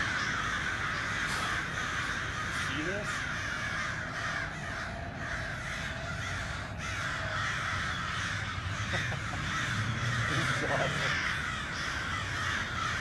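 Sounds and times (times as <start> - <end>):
flock of crows cawing: 0.0 - 13.0.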